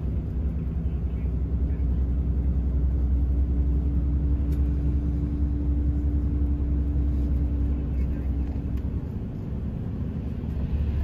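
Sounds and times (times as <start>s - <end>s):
bus engine and road rumble: 0.0s - 11.0s
constant hum: 0.0s - 11.0s.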